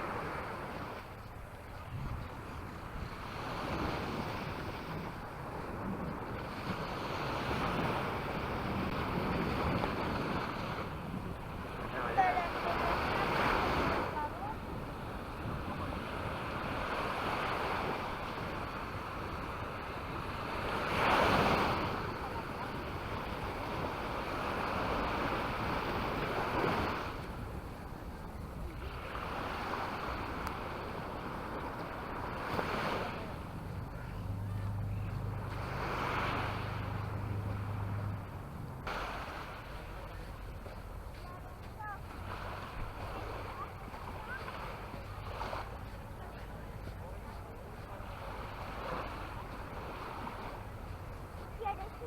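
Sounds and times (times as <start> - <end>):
sea waves breaking on beach: 0.0 - 52.0
wind buffeting microphone: 0.0 - 52.0.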